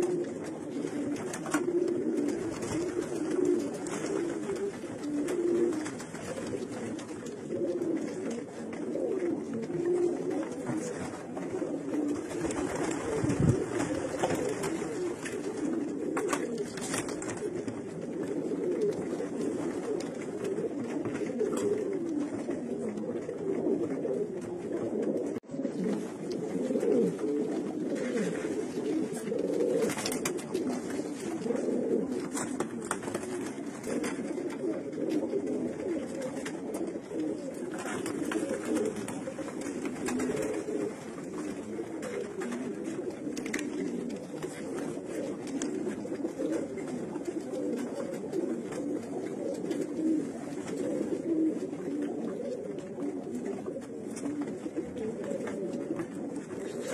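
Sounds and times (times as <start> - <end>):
pigeons cooing: 0.0 - 56.9.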